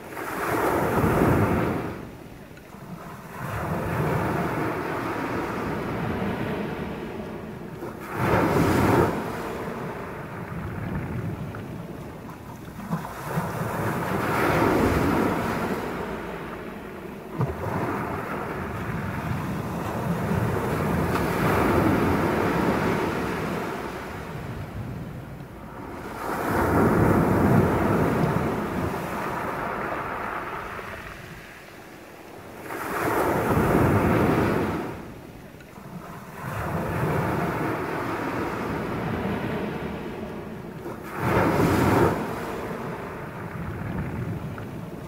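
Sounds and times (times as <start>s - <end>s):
waves washing up a pebble beach: 2.9s - 12.0s, 12.6s - 24.8s, 25.6s - 35.2s, 36.0s - 45.0s.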